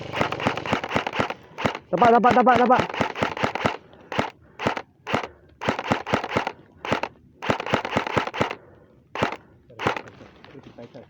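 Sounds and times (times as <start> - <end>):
airsoft guns firing: 0.0 - 10.1.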